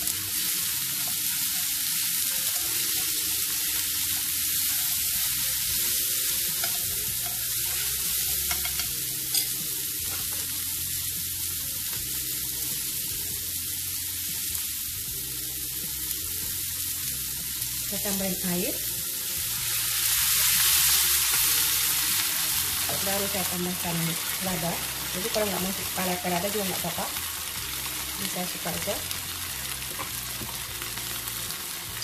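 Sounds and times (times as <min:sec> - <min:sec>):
vegetables sizzling in hot oil: 0:00.0 - 0:32.0.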